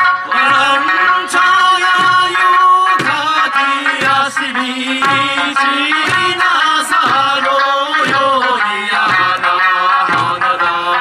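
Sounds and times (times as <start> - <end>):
drum strokes: 0.0 - 11.0
person singing: 0.0 - 11.0
plucked lute: 0.0 - 11.0.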